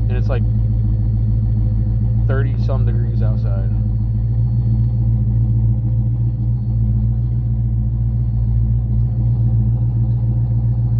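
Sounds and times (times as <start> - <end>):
pickup engine idling: 0.0 - 10.9.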